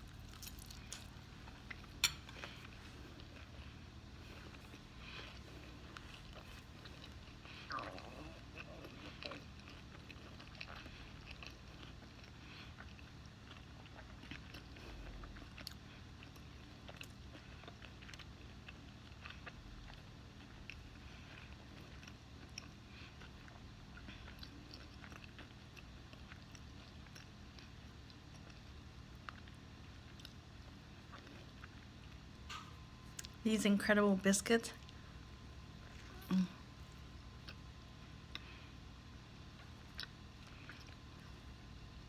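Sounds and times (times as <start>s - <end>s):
person chewing and crunching: 0.0s - 33.4s, 34.8s - 41.6s
low steady hum: 0.0s - 42.0s.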